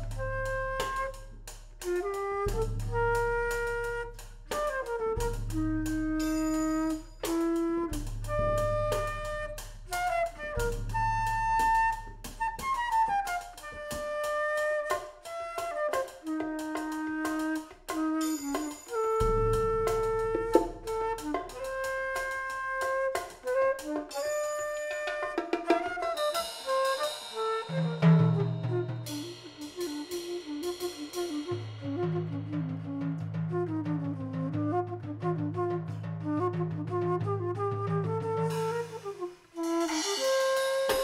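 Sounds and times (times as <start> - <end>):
drum kit playing: 0.0 - 33.6, 38.4 - 41.0
flute playing: 0.0 - 41.0.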